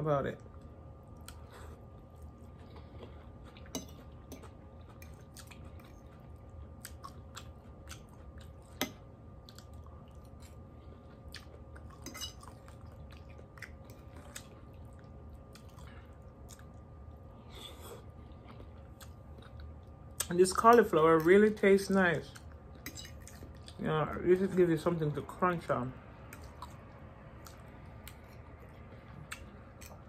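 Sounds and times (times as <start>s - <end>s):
person chewing vegetables: 0.4s - 21.4s, 22.2s - 23.9s, 26.2s - 30.0s.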